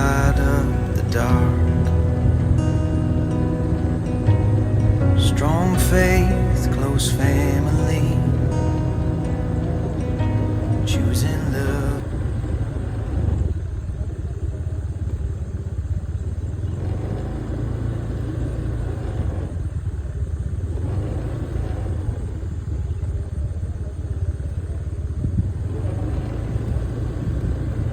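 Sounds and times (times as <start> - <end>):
vehicle engine and road rumble: 0.0 - 27.9.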